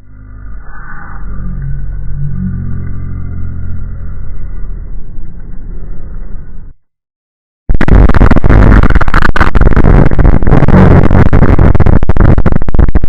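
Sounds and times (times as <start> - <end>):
distorted crackling noise: 0.0 - 6.8, 7.7 - 13.0.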